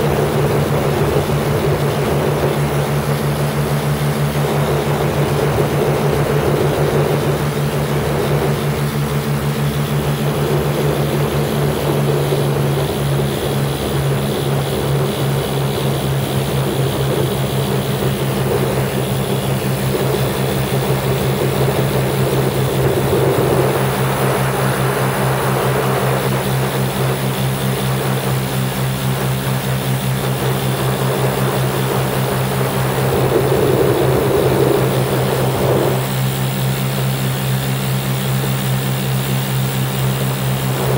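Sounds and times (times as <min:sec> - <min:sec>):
air rushing over microphone: 0:00.0 - 0:40.9
aircraft engines droning: 0:00.0 - 0:40.9.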